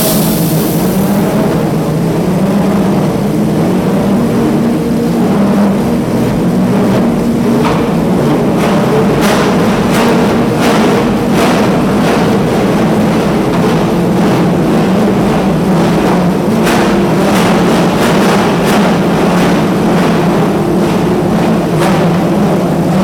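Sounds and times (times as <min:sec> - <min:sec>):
race car engines running: 0:00.0 - 0:23.0.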